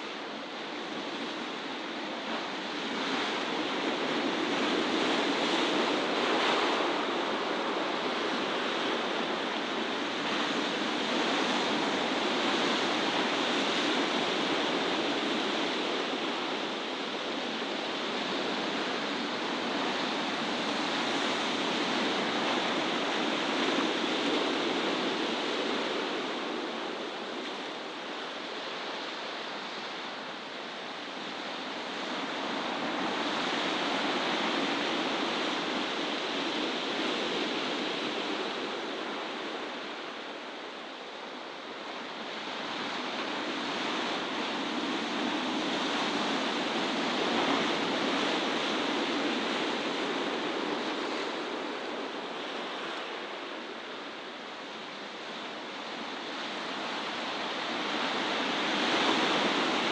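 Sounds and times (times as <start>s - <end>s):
sea surf washing ashore: 0.0s - 59.9s.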